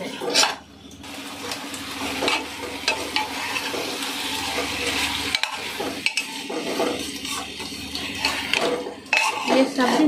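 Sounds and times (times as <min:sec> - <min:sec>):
metal spatula scraping pot: 0:00.0 - 0:00.6, 0:01.5 - 0:10.0
vegetables sizzling: 0:00.0 - 0:10.0.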